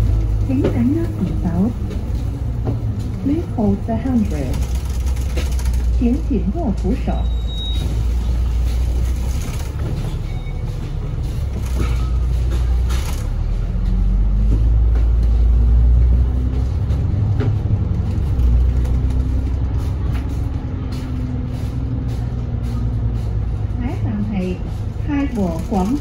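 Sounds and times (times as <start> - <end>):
bus engine drone: 0.0 - 26.0.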